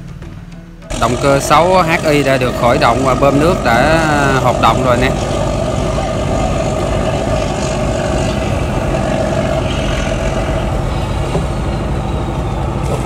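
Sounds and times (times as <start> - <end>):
diesel boat engine running: 0.8 - 13.0
water pump working: 0.9 - 13.0.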